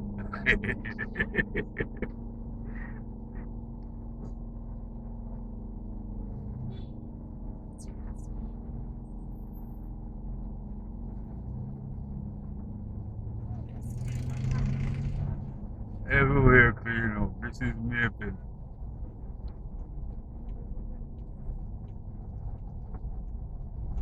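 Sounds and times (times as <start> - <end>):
truck engine and road drone: 0.0 - 24.0.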